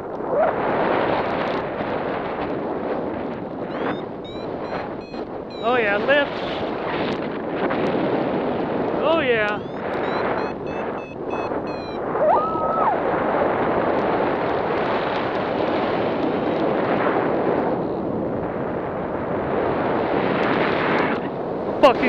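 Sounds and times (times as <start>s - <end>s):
wind roaring over microphone: 0.0s - 22.0s.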